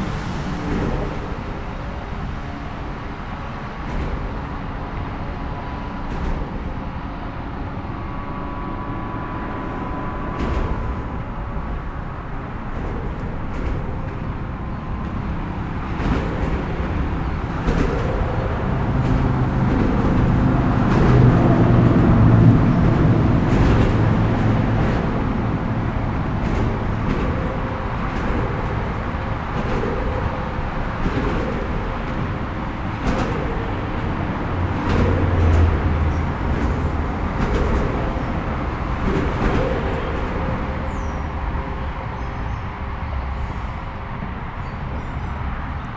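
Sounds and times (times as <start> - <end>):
heavy engine rumble: 0.0 - 45.9
steady traffic noise: 0.0 - 45.9.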